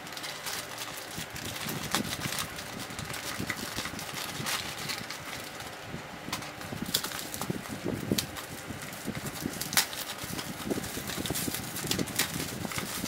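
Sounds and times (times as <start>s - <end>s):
plastic mailer tearing and crackling: 0.0s - 13.0s.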